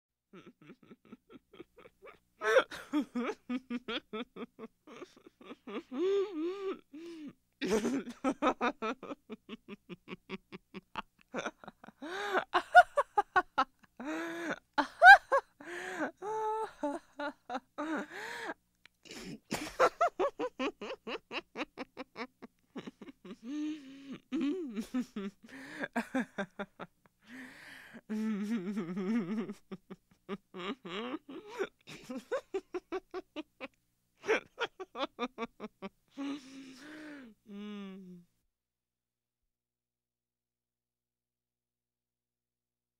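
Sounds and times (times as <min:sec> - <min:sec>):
woman giggling and laughing: 0:00.3 - 0:27.4, 0:28.0 - 0:38.0.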